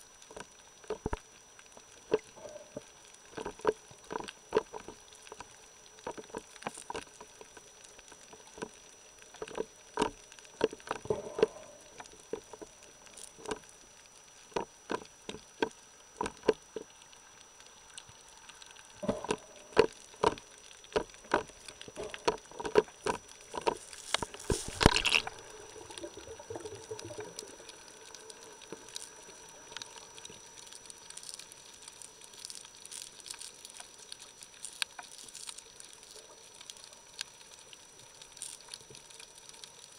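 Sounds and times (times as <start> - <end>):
sharp underwater clicks and knocks: 0.2 - 13.7, 14.4 - 17.1, 18.0 - 37.6.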